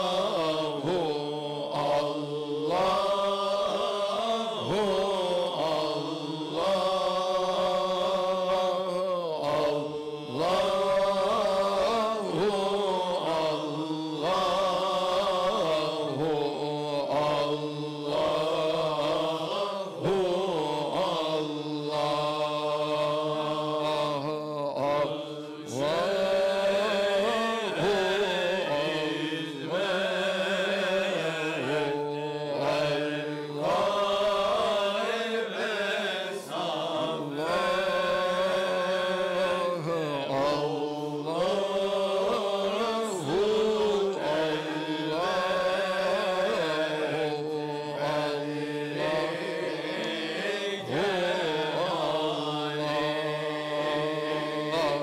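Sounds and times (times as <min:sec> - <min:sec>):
men chanting a hymn: 0:00.0 - 0:55.0.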